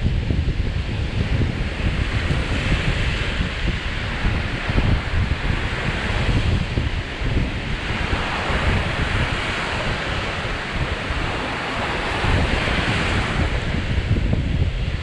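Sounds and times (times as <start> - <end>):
waves breaking on shore: 0.0 - 15.0
wind rumbling on microphone: 0.0 - 15.0.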